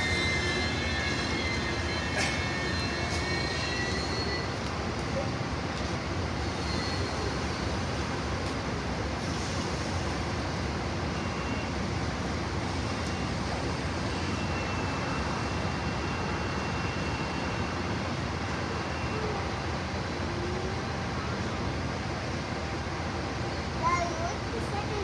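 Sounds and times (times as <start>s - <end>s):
train noise at station: 0.0s - 25.0s.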